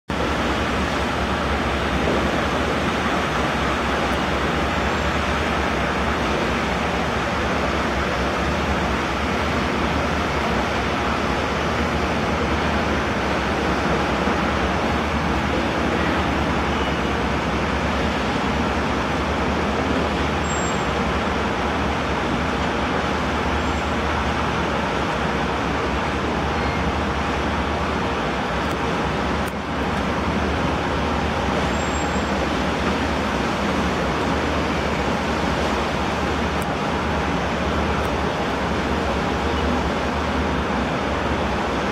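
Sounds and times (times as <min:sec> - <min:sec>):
ferry engine rumble and rushing: 0:00.0 - 0:41.9.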